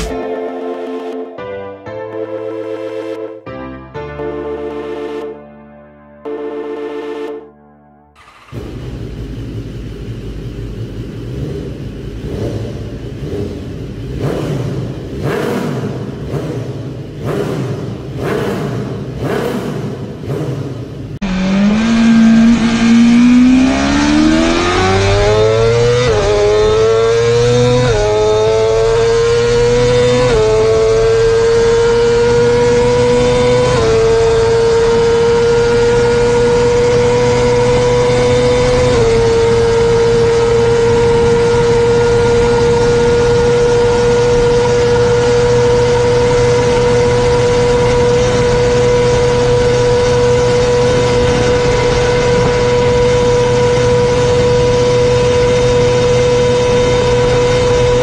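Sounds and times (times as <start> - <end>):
motorcycle engine accelerating: 0.0 - 0.4, 8.1 - 58.0.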